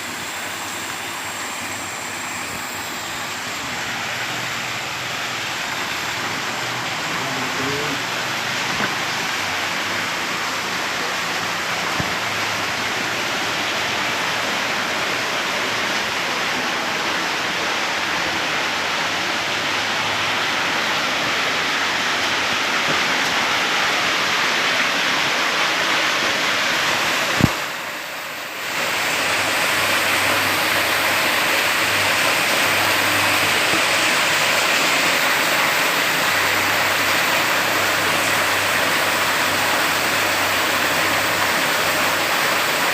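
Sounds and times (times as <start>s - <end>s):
water rushing: 0.0s - 42.9s.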